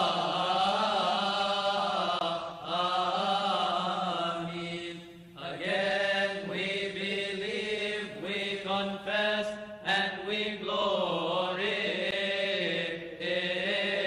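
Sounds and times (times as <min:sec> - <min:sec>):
congregation chanting: 0:00.0 - 0:14.0.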